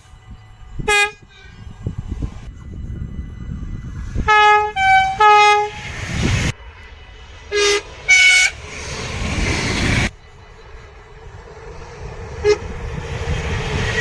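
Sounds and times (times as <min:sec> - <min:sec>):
two-tone train horn blasts: 0:00.0 - 0:11.4, 0:12.3 - 0:13.1
train passing: 0:00.0 - 0:14.0.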